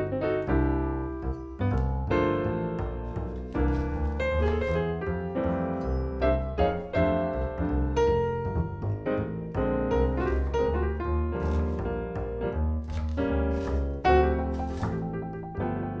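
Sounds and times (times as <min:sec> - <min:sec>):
background piano music: 0:00.0 - 0:16.0
low bass line: 0:00.0 - 0:16.0.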